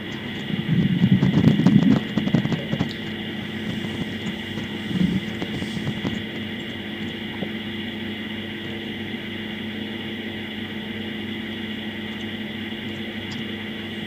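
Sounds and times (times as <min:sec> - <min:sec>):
steady hum with held tones: 0:00.0 - 0:14.0.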